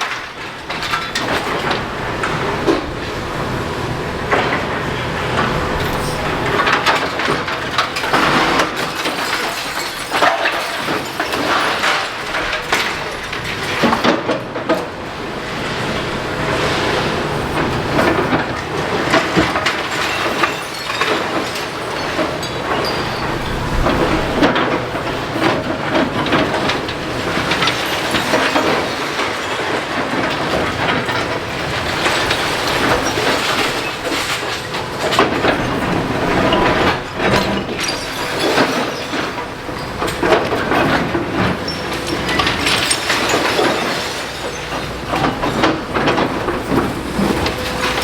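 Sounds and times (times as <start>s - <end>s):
breaking masonry and tumbling rubble: 0.0s - 3.2s, 4.3s - 48.0s
excavator working: 0.0s - 48.0s.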